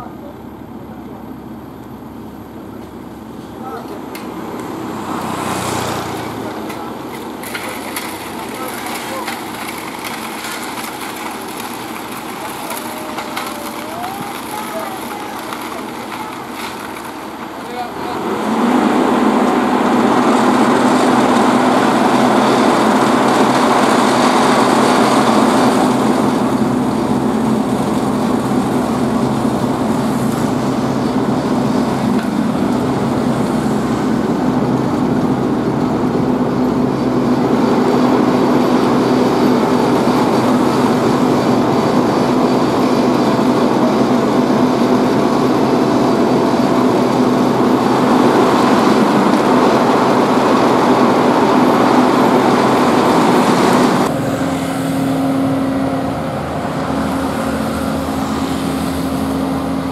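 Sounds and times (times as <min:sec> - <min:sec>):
diesel machinery engines running: 0:00.0 - 0:59.9.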